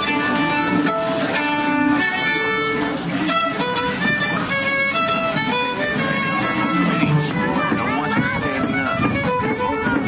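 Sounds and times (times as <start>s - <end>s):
fiddle playing a tune: 0.0s - 10.0s.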